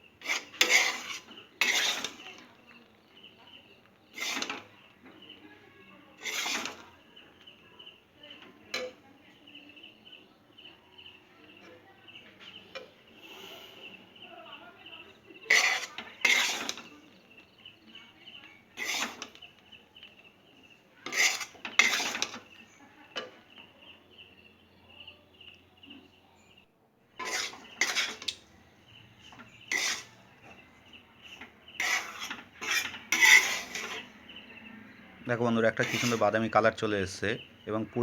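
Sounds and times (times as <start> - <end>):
utensil scraping a wok: 0.0 - 24.8, 27.1 - 37.7.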